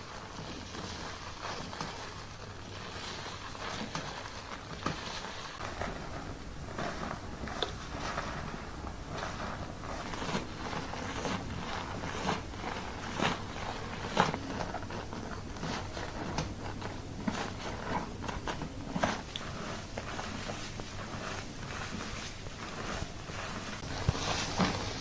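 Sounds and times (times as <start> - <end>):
fingers scrubbing lathered scalp: 0.0 - 25.0.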